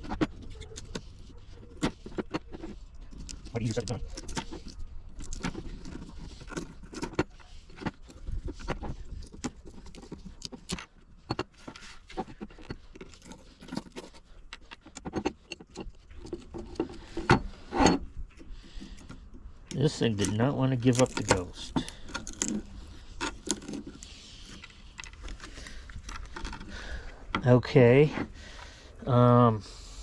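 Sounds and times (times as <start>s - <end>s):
hand tool on metal wrench: 0.0s - 28.2s.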